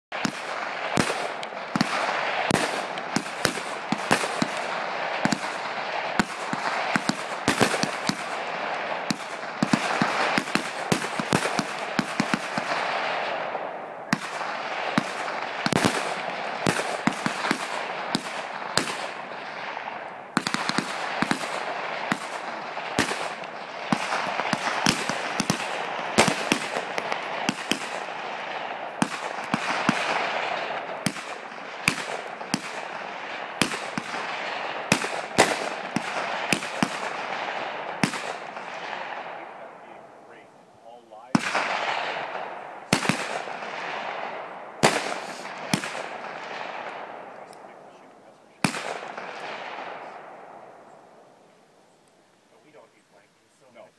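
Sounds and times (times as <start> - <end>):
rifle shots: 0.1 - 51.7.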